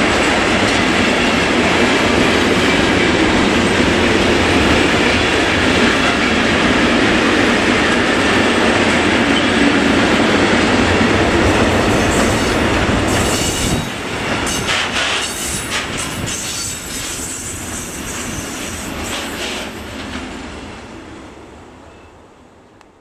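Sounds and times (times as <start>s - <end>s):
train wheels clattering over rails: 0.0s - 20.4s.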